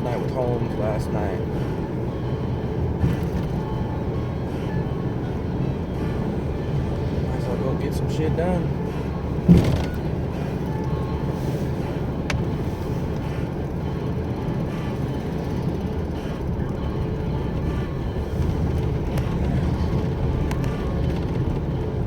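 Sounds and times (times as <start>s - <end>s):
truck engine and road rumble: 0.0s - 22.0s.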